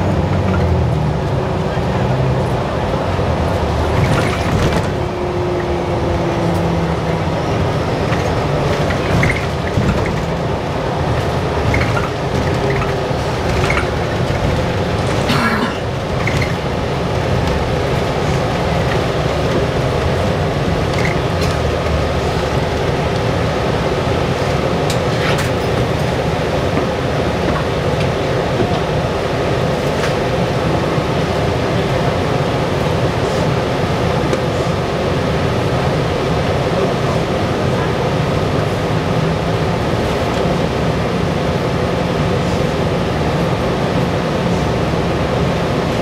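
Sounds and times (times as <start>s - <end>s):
bus drivetrain and road rumble: 0.0s - 46.0s.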